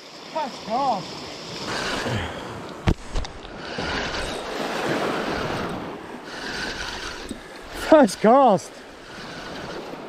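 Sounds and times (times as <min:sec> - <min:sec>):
small waves washing over rocks: 0:00.2 - 0:10.0
wind on microphone: 0:01.4 - 0:10.0.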